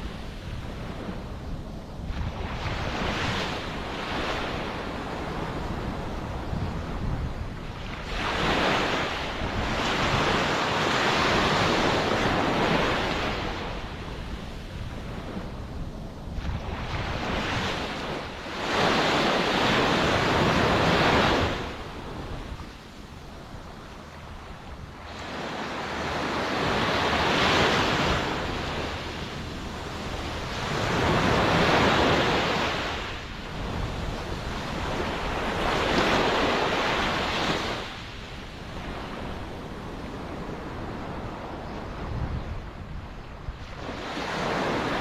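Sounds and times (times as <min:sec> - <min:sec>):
ocean waves breaking: 0:00.0 - 0:45.0.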